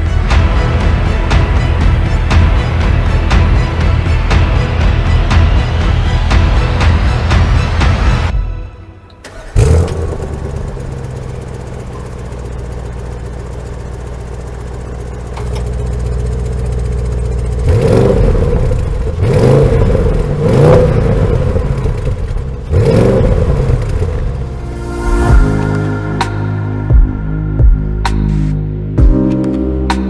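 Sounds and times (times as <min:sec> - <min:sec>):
car engine revving: 0:00.0 - 0:08.3, 0:09.1 - 0:28.7
car engine starting and idling: 0:00.0 - 0:29.0.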